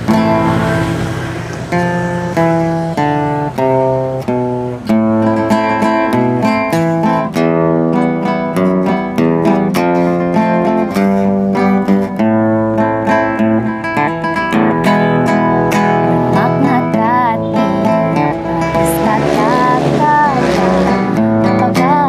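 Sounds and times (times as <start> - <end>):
acoustic guitar picking melody: 0.0 - 22.0.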